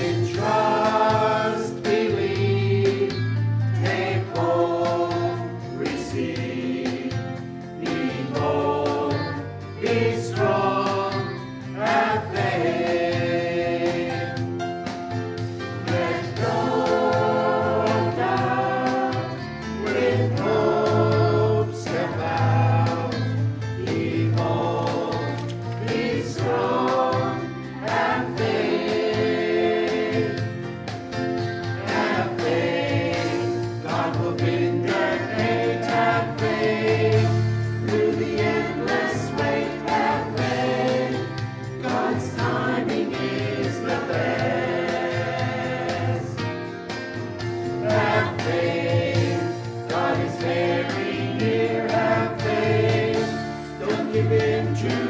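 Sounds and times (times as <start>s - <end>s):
church choir singing: 0.0s - 14.6s, 15.6s - 30.8s, 31.7s - 55.0s.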